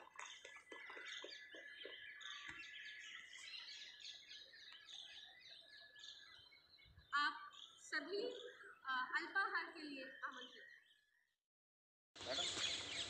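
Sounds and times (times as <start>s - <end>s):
faint chorus of birds chirping: 0.0s - 11.4s, 12.2s - 13.0s
lower evenly spaced bird notes: 0.0s - 11.4s, 12.2s - 13.0s.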